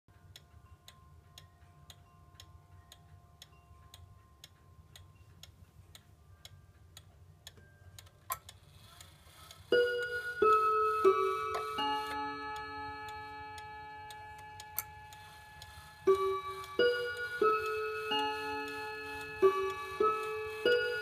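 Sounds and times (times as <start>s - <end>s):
wall clock ticking faintly: 0.1s - 21.0s.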